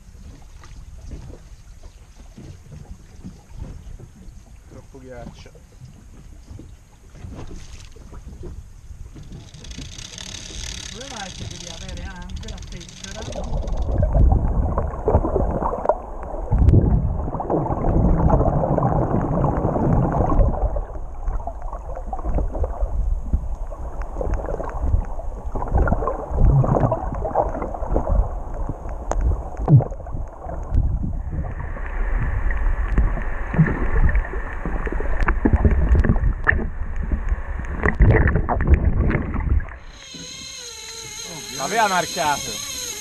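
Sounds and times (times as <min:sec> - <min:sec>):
muffled water sloshing underwater: 0:00.0 - 0:43.0.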